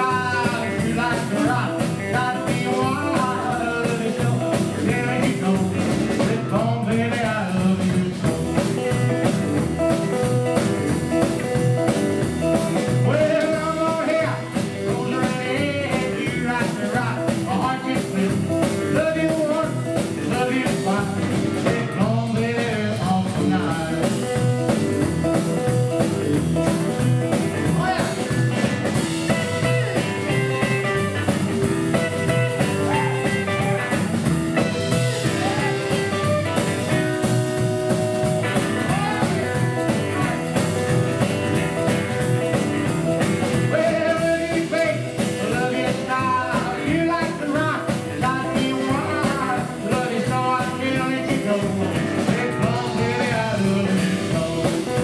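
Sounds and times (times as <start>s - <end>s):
rock and roll trio playing: 0.0s - 55.0s.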